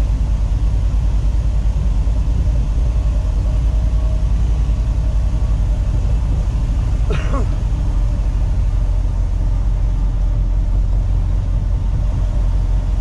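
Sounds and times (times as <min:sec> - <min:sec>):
truck engine and tyres droning: 0:00.0 - 0:13.0.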